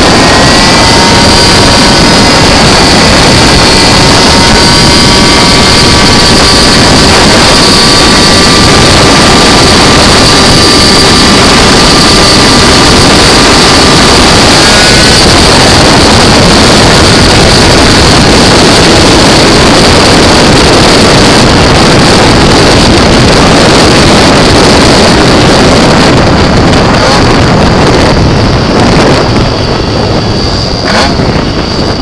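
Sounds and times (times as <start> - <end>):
scooter engine running: 0.0 - 32.0
wind noise on microphone: 0.0 - 32.0.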